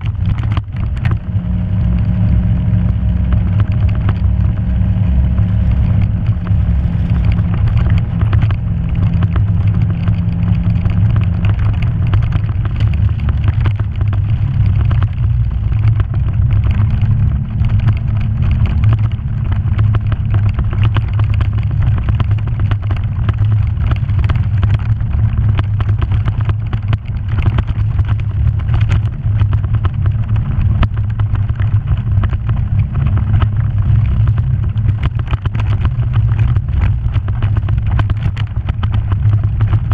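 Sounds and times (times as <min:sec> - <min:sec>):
off-road vehicle engine running: 0:00.0 - 0:39.9
vehicle rattles and knocks: 0:00.0 - 0:39.9.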